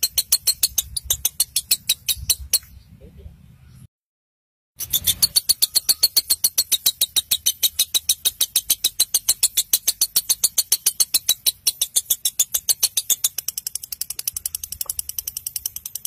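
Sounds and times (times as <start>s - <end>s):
bird chattering high chirps: 0.0s - 3.9s, 4.8s - 16.0s.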